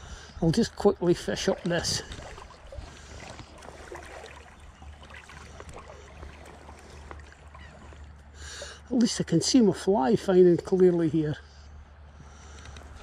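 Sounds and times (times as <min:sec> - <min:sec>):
stream running water: 0:00.0 - 0:12.0.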